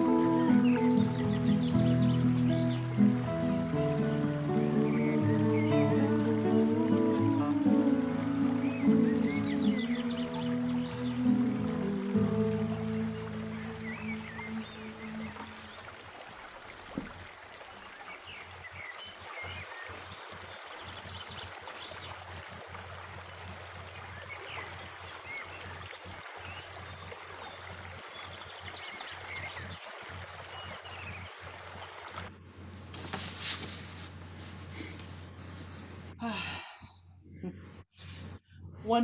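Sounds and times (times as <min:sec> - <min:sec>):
stream running over rocks: 0:00.0 - 0:36.6.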